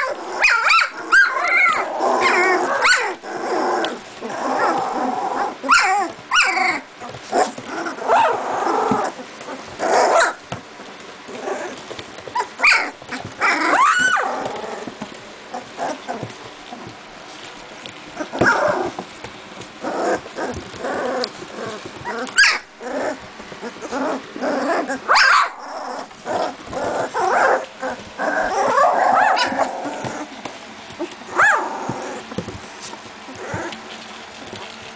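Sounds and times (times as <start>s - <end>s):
puppies whimpering: 0.0s - 10.4s, 11.3s - 17.1s, 17.8s - 19.1s, 19.8s - 32.4s
puppies yipping: 0.0s - 10.6s, 11.3s - 17.0s, 18.1s - 19.0s, 19.8s - 34.8s
puppies growling: 0.0s - 34.9s.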